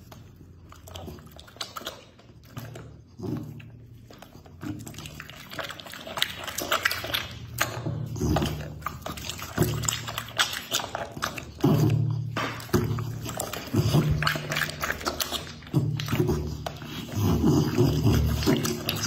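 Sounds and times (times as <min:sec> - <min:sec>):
wet squelches of raw meat: 0:00.0 - 0:19.0.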